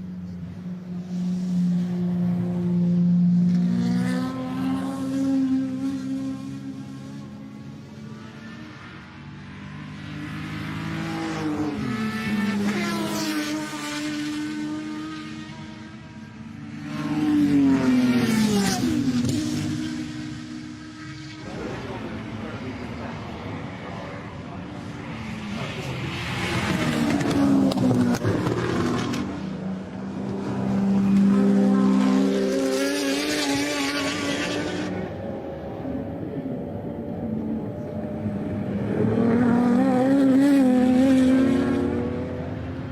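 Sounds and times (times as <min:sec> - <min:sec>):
racing car engine passing by: 0:01.0 - 0:42.9.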